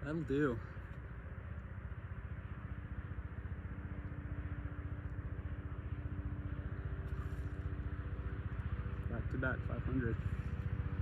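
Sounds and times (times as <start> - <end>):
steady hum: 0.0 - 11.0
vehicle engine running: 0.0 - 11.0.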